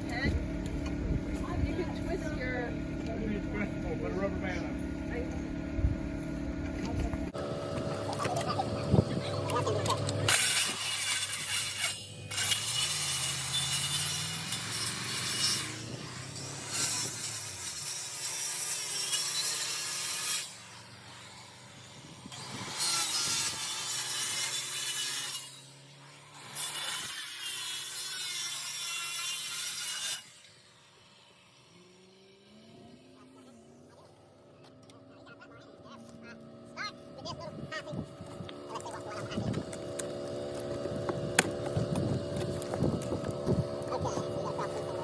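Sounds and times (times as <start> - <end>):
saw cutting wood: 0.0 - 45.0.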